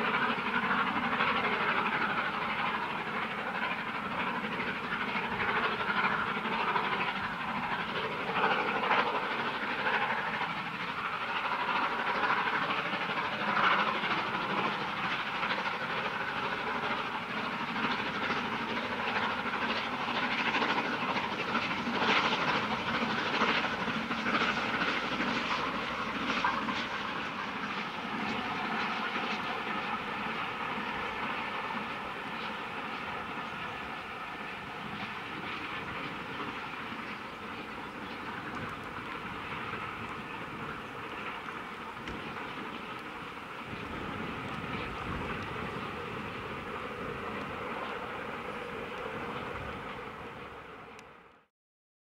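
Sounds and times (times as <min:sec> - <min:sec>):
steam locomotive exhaust beating: 0:00.0 - 0:50.9
train running on track: 0:00.0 - 0:51.5.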